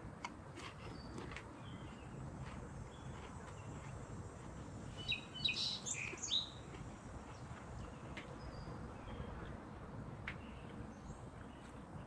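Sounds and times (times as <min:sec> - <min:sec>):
faint outdoor background: 0:00.0 - 0:12.0
bird chirping song: 0:00.8 - 0:12.0.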